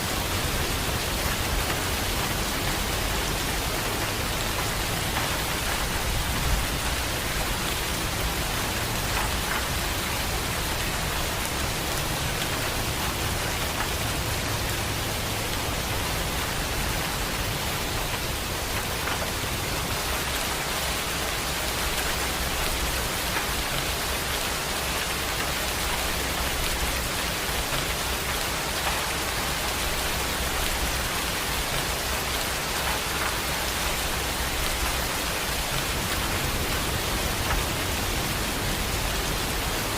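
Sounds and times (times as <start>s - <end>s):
heavy rain hiss: 0.0s - 39.9s
raindrop ticks: 0.1s - 39.9s.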